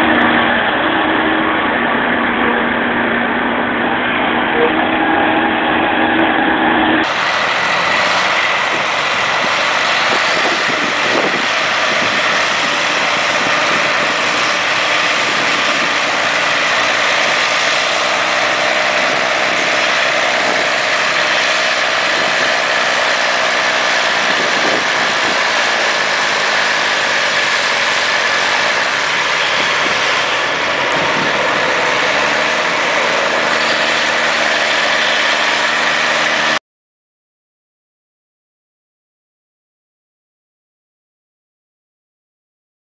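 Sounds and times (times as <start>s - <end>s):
tractor diesel engines revving: 0.0s - 36.6s.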